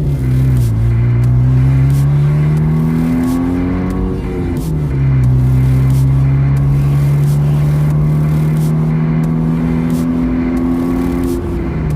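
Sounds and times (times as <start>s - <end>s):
car engine while driving: 0.0s - 11.9s.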